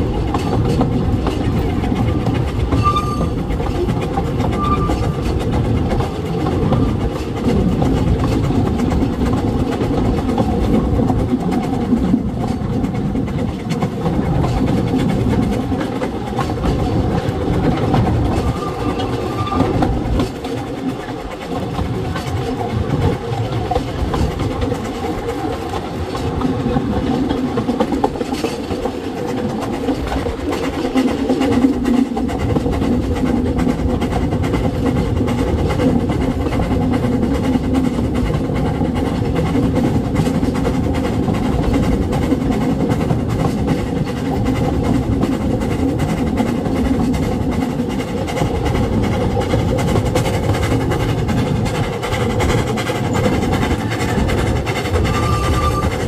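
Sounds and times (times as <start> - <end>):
locomotive working: 0.0 - 56.0
train wheels rumbling on rails: 0.0 - 56.0.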